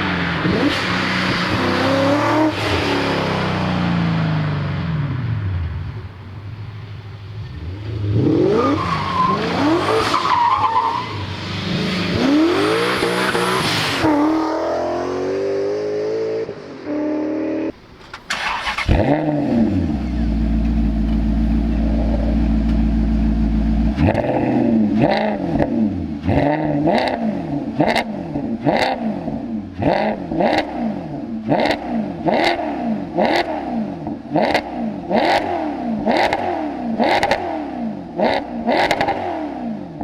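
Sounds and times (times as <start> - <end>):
car engine revving and accelerating: 0.0 - 5.2, 7.4 - 40.0
car engine low drone: 0.0 - 8.7, 11.5 - 35.1.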